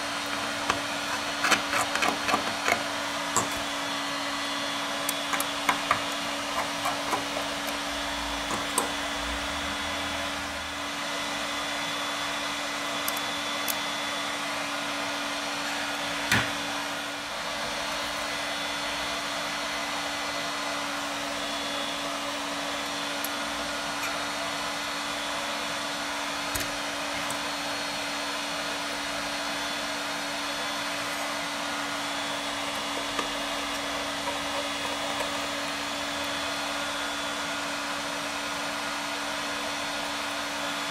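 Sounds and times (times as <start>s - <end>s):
fan-like drone: 0.0s - 38.8s.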